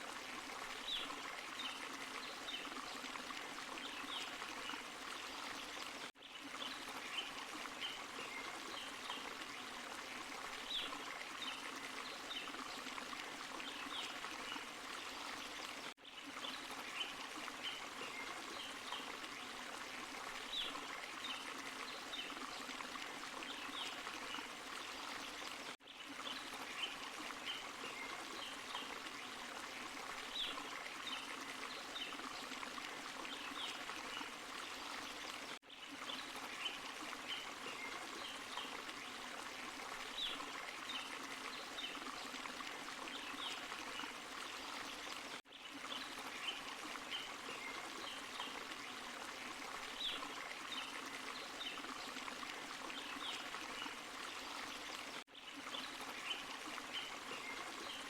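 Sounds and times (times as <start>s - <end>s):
water plinks and splashes: 0.0s - 58.0s.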